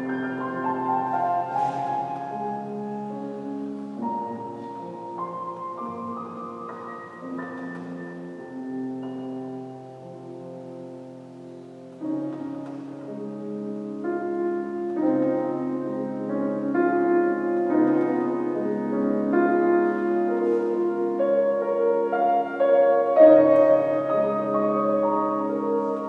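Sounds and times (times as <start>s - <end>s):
grand piano chords: 0.0s - 26.0s.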